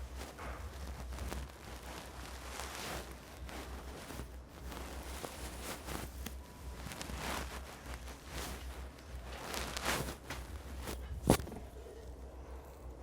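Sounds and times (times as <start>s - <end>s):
hands rustling through hair: 0.0s - 13.0s
steady low hum: 0.0s - 13.0s.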